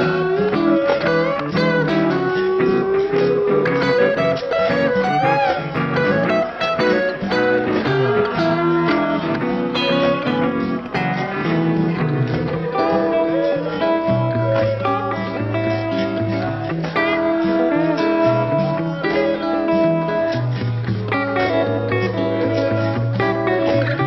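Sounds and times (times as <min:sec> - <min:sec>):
plucked acoustic blues guitar: 0:00.0 - 0:24.0.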